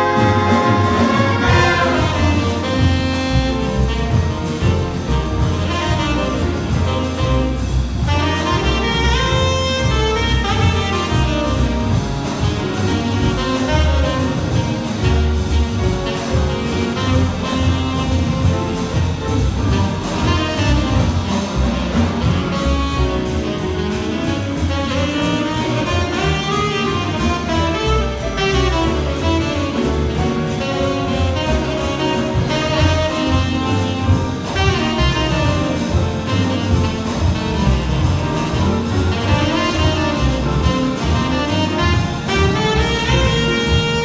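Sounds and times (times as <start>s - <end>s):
saxophone solo: 0.0s - 19.0s, 19.7s - 44.0s
big band playing jazz: 0.0s - 44.0s.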